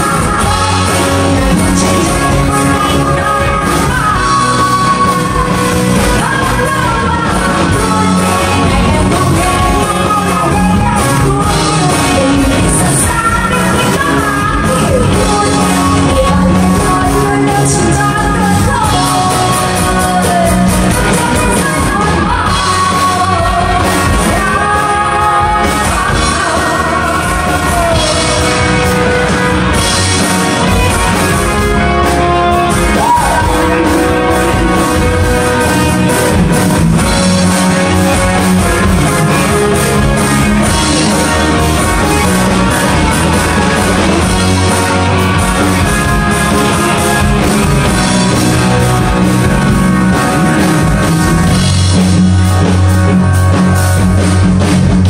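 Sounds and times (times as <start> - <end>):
woman singing into a microphone: 0.0 - 45.0
bass guitar: 0.0 - 55.0
drum kit: 0.0 - 55.0
electric guitar: 0.0 - 55.0.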